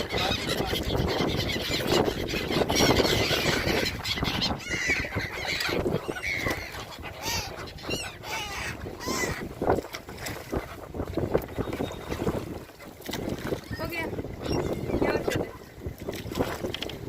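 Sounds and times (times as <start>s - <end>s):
gulls calling: 0.0s - 9.7s, 10.4s - 15.8s
wind: 0.0s - 17.0s.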